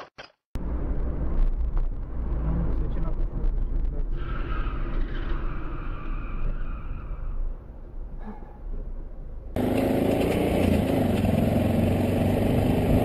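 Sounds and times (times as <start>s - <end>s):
vehicle road and wind noise: 0.6s - 13.0s.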